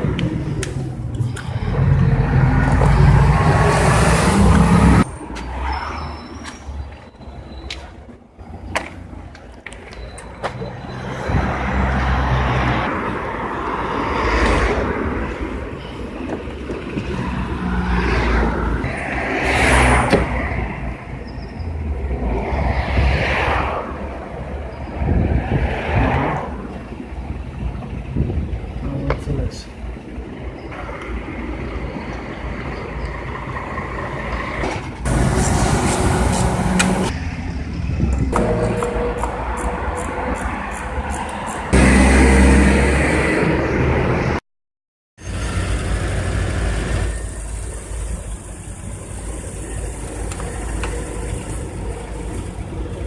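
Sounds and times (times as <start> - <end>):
vehicle rumbling: 0.0 - 44.4, 45.2 - 53.0.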